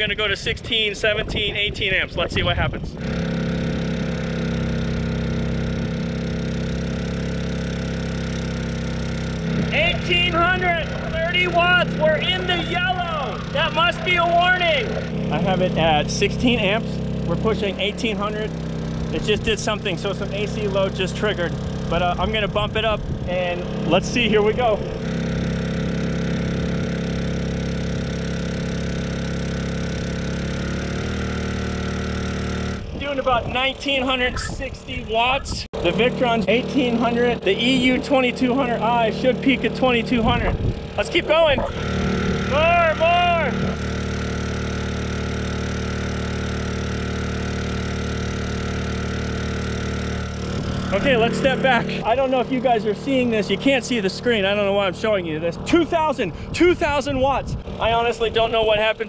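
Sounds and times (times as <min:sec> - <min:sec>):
generator engine running: 0:00.0 - 0:59.0.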